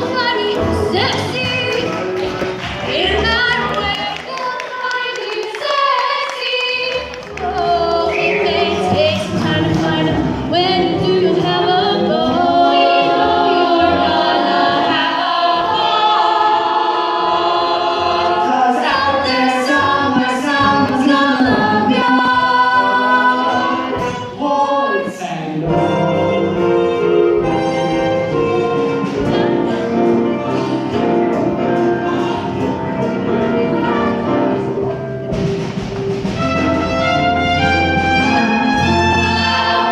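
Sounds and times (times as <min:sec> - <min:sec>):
small choir singing: 0:04.4 - 0:34.6, 0:37.9 - 0:39.9.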